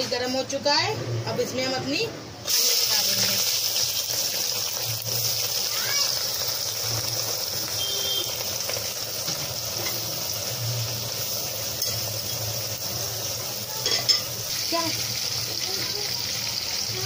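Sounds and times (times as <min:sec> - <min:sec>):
onions sizzling in oil: 0:02.4 - 0:17.0.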